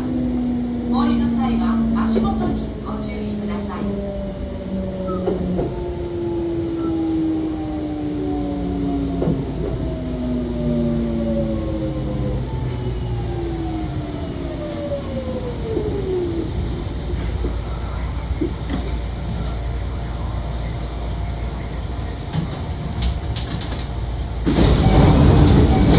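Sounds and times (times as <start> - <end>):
electric train motor whine: 0.0 - 25.9
train running rumble: 0.0 - 25.9.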